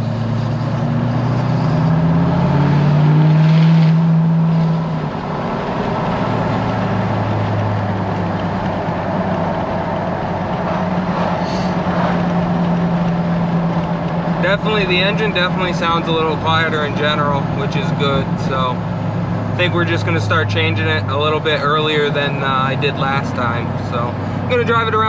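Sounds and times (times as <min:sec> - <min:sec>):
engine hum: 0:00.0 - 0:25.0
road noise: 0:00.0 - 0:25.0.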